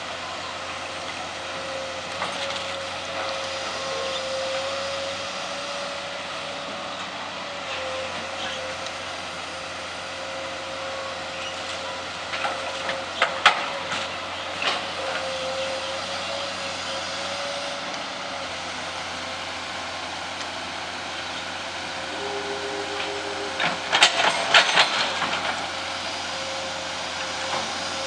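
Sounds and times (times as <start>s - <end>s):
backhoe engine whining: 0.0s - 28.0s.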